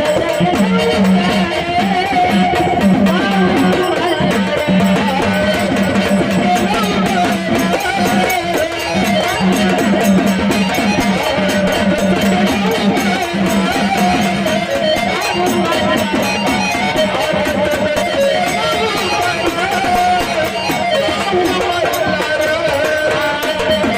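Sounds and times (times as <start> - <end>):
rhythmic percussion: 0.0 - 23.9
wavering folk melody: 0.0 - 23.9.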